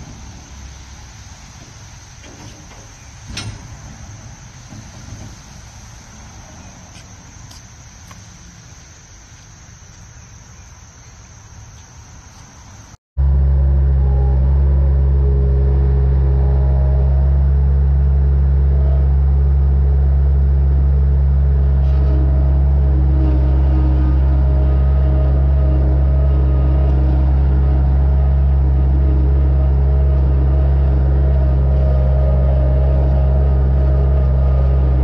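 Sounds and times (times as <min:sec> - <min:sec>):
loader engine running: 0:00.0 - 0:10.1, 0:13.2 - 0:35.0.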